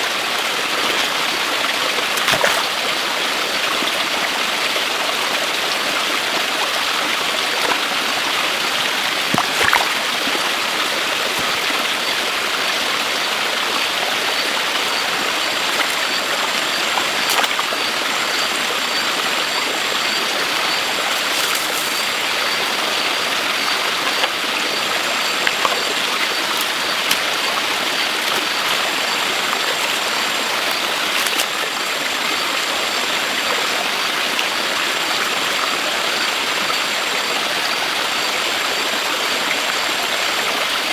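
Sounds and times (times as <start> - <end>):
running water rushing: 0.0 - 37.2.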